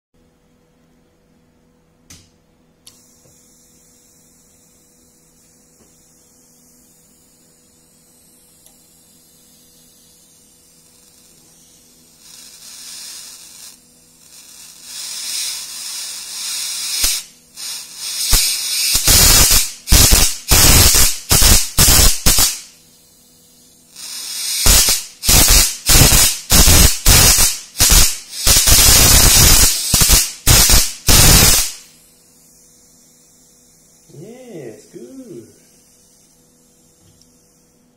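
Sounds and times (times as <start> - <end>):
faint mains hum: 0.2 - 37.9
electric arc bursts: 2.8 - 37.9
hiss: 2.9 - 37.9.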